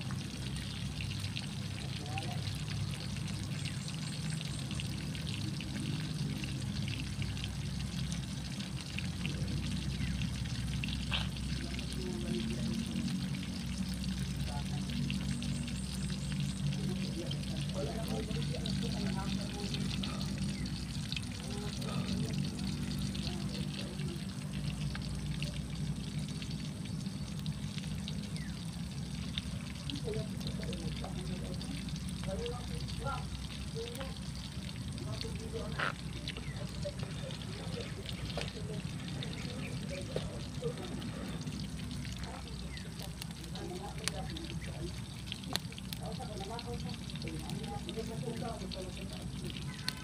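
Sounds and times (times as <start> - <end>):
constant low rumble: 0.0 - 50.0
fish sizzling in oil: 0.0 - 50.0.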